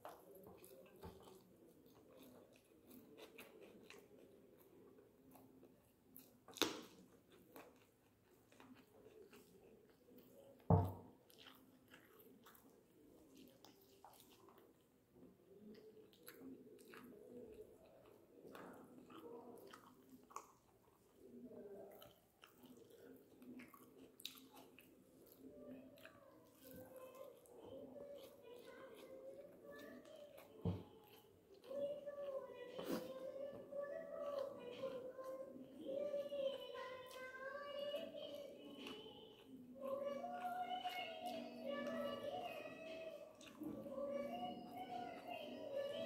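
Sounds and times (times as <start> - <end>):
person chewing: 0.0 - 44.0.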